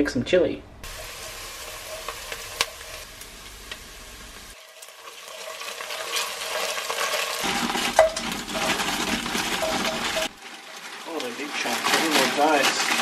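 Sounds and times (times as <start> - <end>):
wooden spoon scraping a pot: 0.8 - 3.1, 3.7 - 13.0
onions sizzling in oil: 0.8 - 13.0.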